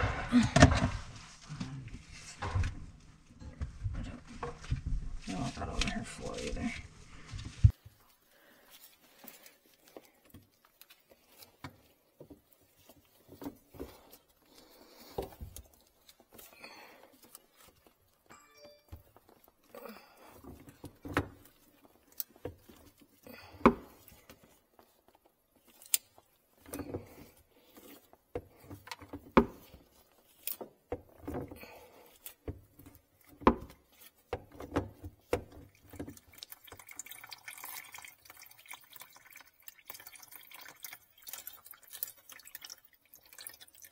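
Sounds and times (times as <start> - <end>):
water trickling into plastic basin: 7.3 - 43.9.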